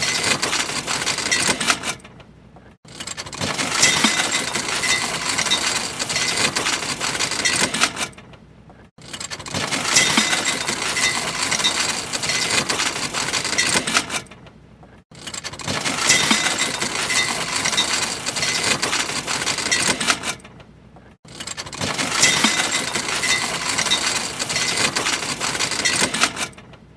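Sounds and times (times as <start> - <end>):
anchor chain rattling: 0.0 - 2.0, 2.9 - 8.2, 9.0 - 14.3, 15.1 - 20.5, 21.3 - 26.6.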